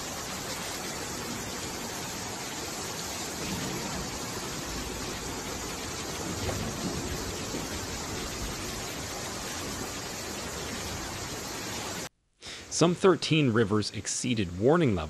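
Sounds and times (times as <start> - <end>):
floodwater rushing: 0.0 - 12.1.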